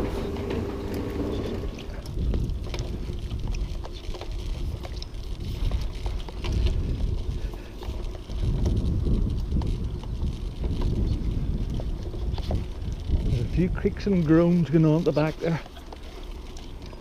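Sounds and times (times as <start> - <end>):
bicycle clicks and creaks: 0.0 - 17.0
bicycle rolling rumble and wind: 0.0 - 17.0.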